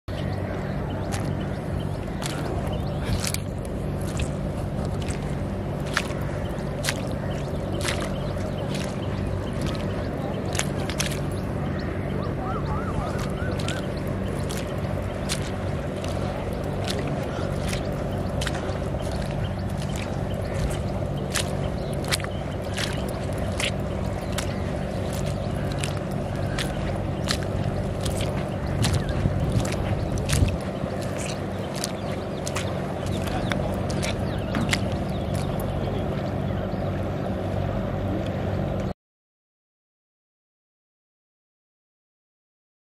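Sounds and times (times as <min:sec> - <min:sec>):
low hum: 0:00.0 - 0:38.9
footsteps squelching in mud: 0:00.1 - 0:36.8
steady low drone: 0:00.1 - 0:38.9.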